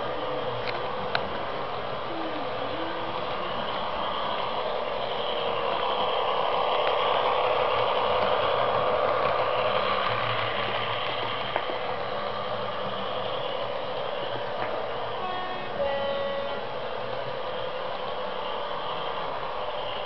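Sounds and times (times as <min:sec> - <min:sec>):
model train motors whirring: 0:00.0 - 0:20.0
wheels rattling over track: 0:00.0 - 0:20.0.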